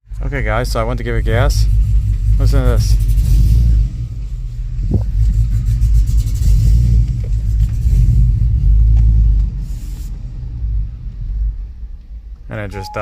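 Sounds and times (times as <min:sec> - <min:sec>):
engine running rough: 0:00.1 - 0:13.0.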